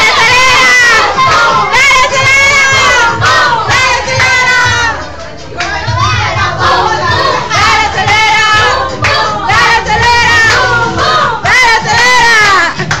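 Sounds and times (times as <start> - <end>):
children singing and shouting: 0.0 - 13.0
loud music with pulsing bass: 0.0 - 13.0.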